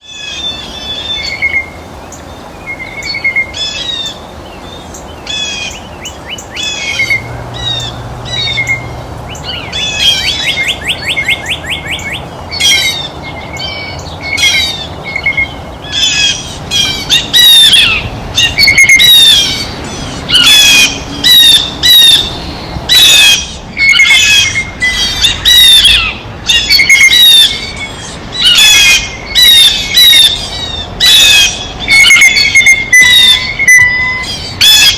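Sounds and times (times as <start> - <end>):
birds squawking: 0.0 - 34.9.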